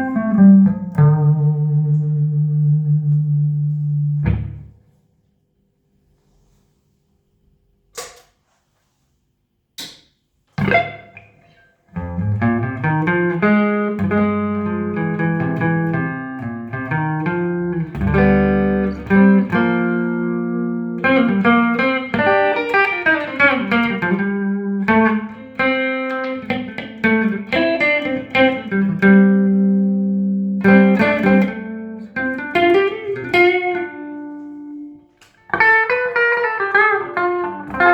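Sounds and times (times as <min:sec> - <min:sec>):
electric guitar chords and notes: 0:00.0 - 0:04.8, 0:10.6 - 0:37.9.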